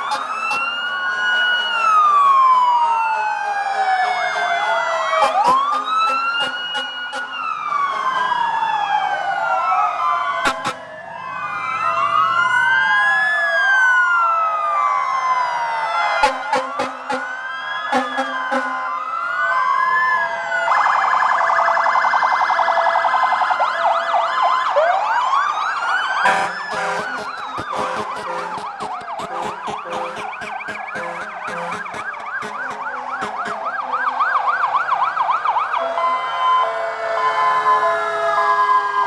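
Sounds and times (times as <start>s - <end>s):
sirens wailing: 0.0s - 39.0s
sirens yelping: 0.0s - 39.0s.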